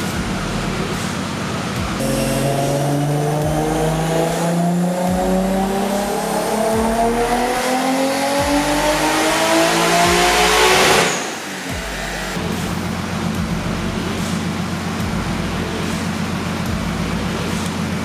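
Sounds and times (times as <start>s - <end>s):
turbo engine revving on dyno: 0.0s - 18.0s.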